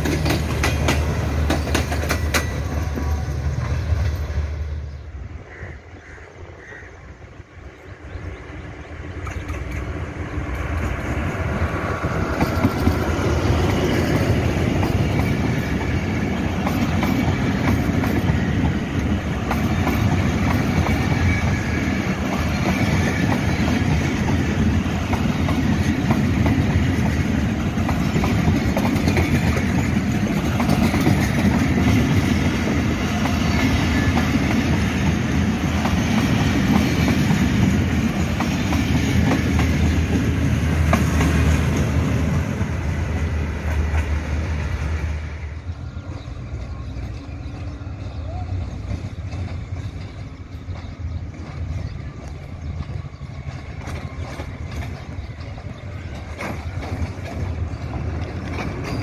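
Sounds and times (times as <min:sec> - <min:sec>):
train wheels clattering over rails: 0:00.0 - 0:04.8, 0:09.1 - 0:59.0.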